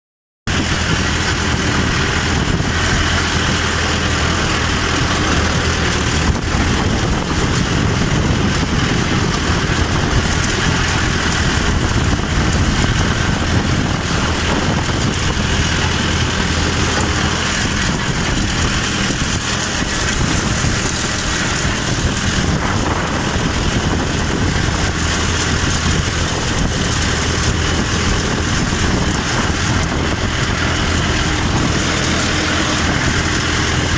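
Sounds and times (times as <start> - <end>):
tractor diesel engine running: 0.5 - 33.9.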